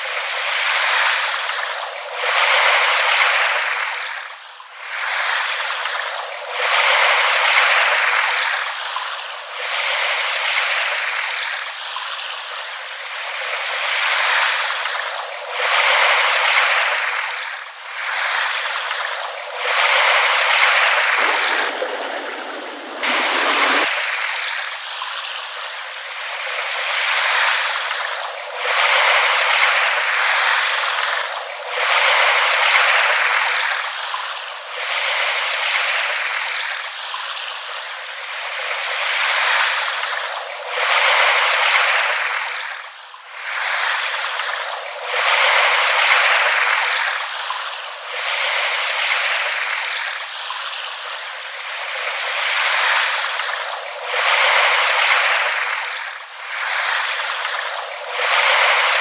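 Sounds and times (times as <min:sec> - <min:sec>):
small waves lapping at shore: 0:00.0 - 0:59.0.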